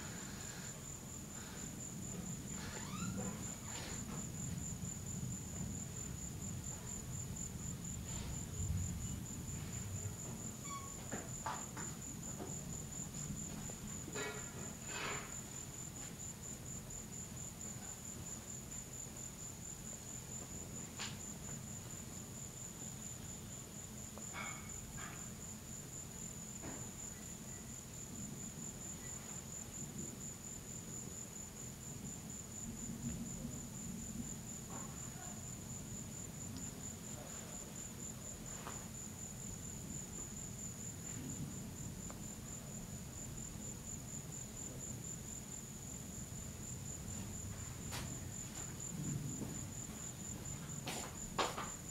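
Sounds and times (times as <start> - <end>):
crickets chirping: 0.0 - 51.9.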